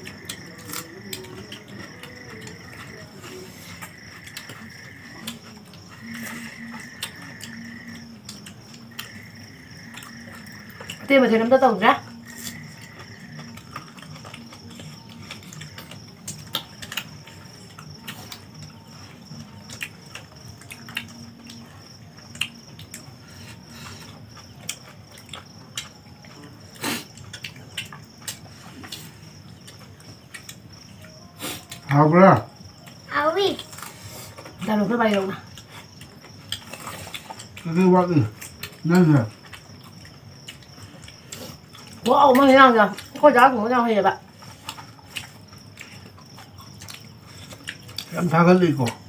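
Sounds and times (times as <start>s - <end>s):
crickets chirping: 0.0s - 49.0s
night insects trilling: 0.0s - 49.0s.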